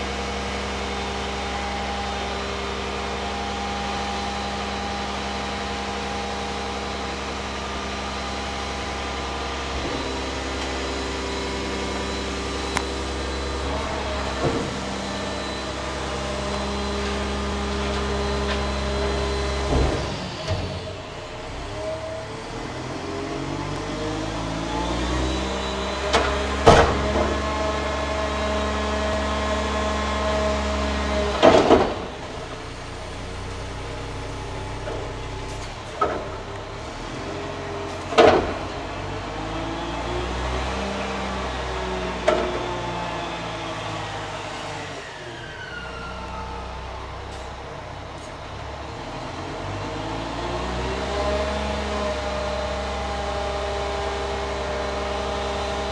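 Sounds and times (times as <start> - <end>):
garbage truck diesel engine: 0.0 - 55.9.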